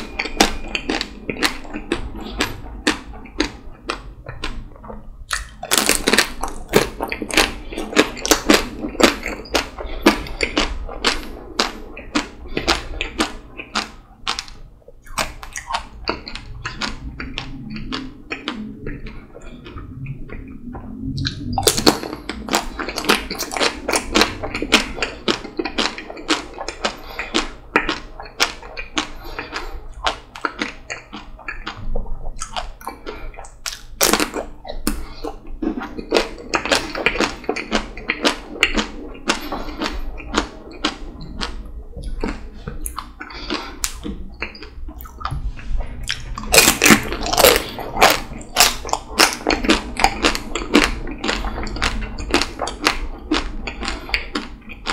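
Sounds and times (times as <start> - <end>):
chewing: 0.0 - 54.9.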